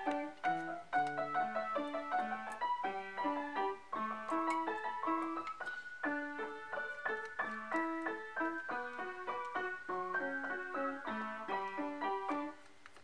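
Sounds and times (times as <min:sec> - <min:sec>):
keyboard music: 0:00.0 - 0:12.7.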